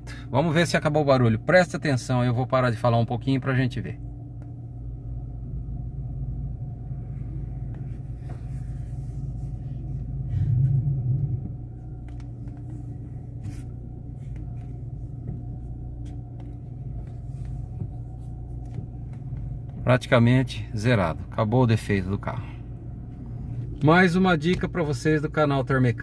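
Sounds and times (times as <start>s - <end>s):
car engine idling hum: 0.0s - 26.0s.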